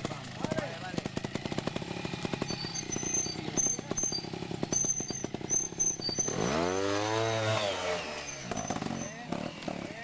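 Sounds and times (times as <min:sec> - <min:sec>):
motorcycle engine ticking over: 0:00.0 - 0:07.6, 0:08.2 - 0:10.0
motorcycle engine revving: 0:00.0 - 0:10.0.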